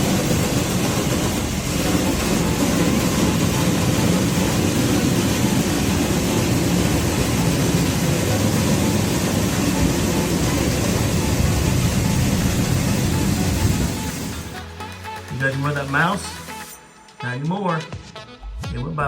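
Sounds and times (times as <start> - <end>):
high-powered vacuum rushing air: 0.0 - 16.8.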